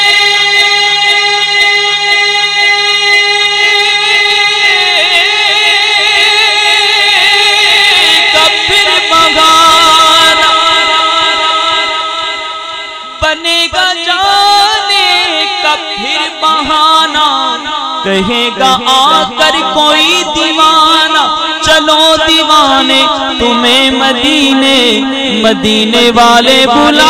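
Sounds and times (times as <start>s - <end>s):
man singing into a microphone: 0.0s - 27.0s.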